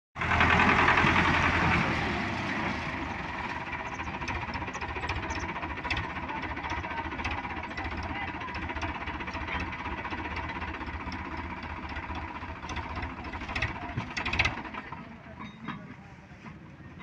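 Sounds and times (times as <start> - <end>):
diesel tractor engine knocking: 0.2 - 16.7.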